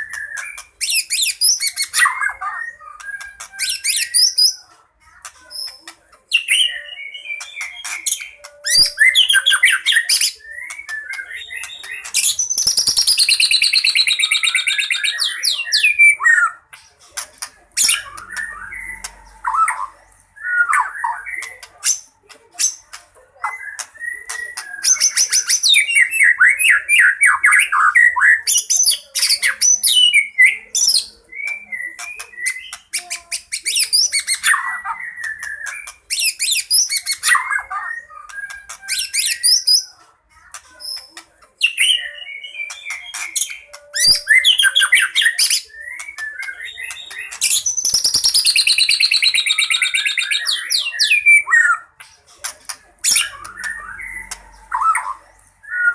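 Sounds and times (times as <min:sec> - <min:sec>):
bird singing varied song: 0:00.0 - 0:55.9.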